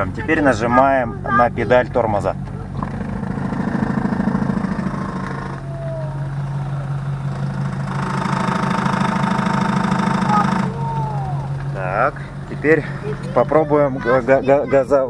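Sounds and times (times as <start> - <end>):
power steering pump knocking: 0.0 - 14.0
engine idling: 0.0 - 15.0.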